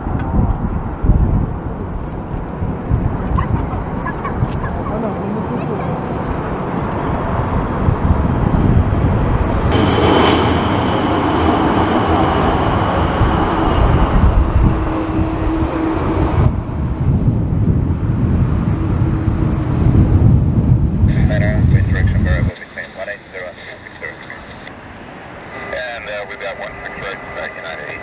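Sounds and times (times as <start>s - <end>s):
wind rumble on microphone: 0.0s - 22.5s
high engine whine: 0.0s - 28.0s
jet engines landing: 0.0s - 28.0s.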